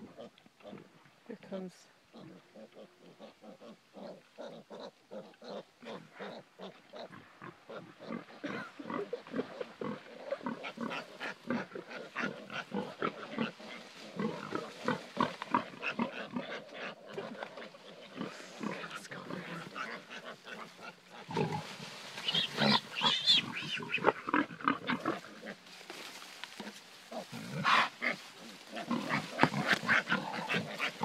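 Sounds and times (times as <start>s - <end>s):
piglets grunting: 2.2s - 25.6s, 26.6s - 31.0s.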